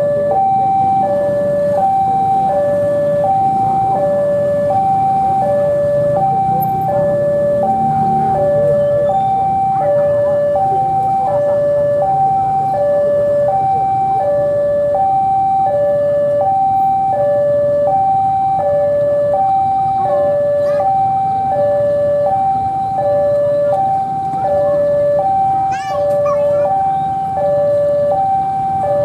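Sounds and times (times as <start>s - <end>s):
two-tone electronic warning alarm: 0.0s - 29.0s.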